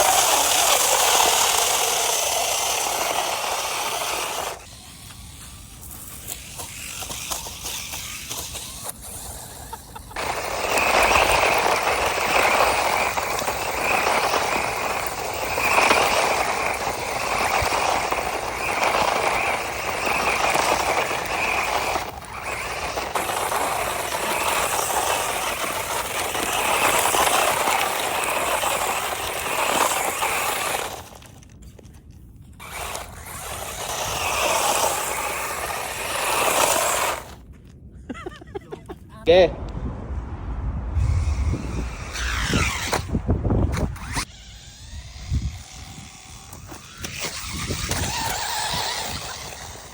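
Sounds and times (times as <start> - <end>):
toy car motor whining: 0.0 - 31.9, 32.5 - 37.4, 41.2 - 49.9.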